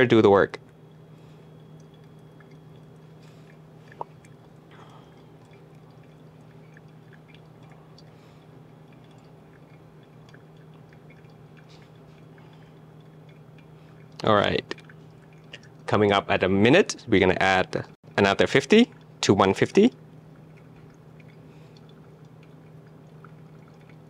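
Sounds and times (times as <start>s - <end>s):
coffee dripping through filter: 0.0s - 24.0s
steady low hum: 0.0s - 24.0s.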